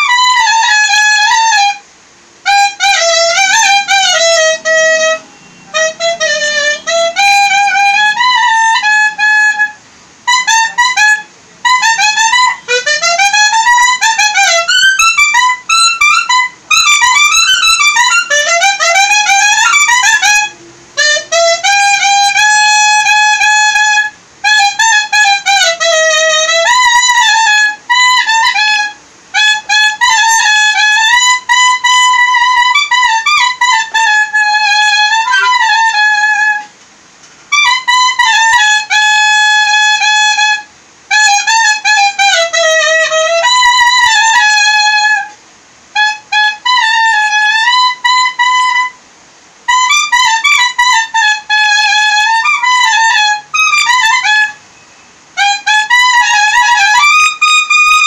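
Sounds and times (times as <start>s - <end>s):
solo clarinet melody: 0.0s - 49.0s, 49.6s - 58.0s.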